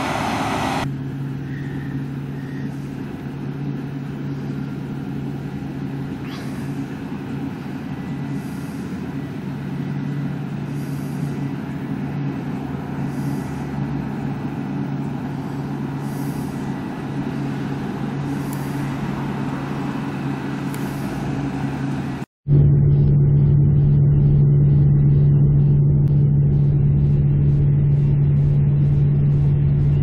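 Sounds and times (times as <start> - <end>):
combine harvester engine drone: 0.0 - 30.0.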